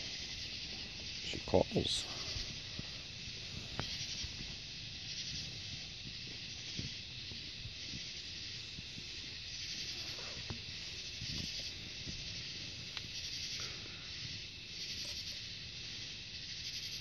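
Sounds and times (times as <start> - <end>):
night insect chorus: 0.0 - 17.0.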